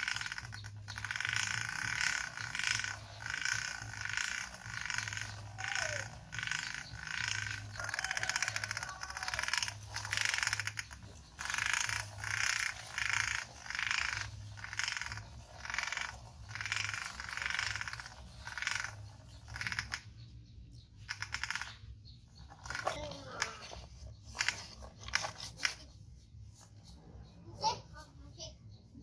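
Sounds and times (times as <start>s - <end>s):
toy truck wheels rattling and scraping: 0.0s - 27.3s.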